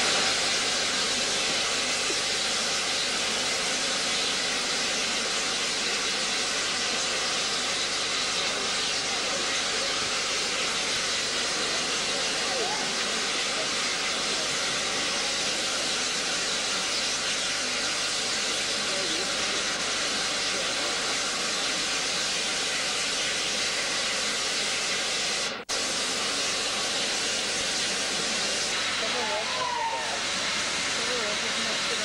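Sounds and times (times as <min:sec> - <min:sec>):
locomotive blowing off steam: 0:00.0 - 0:32.0.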